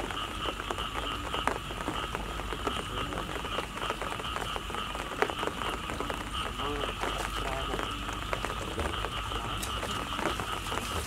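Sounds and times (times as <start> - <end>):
pulsing animal chorus: 0.0 - 11.0
rain falling on mud and water: 0.0 - 11.0
sharp drip ticks: 0.0 - 11.0.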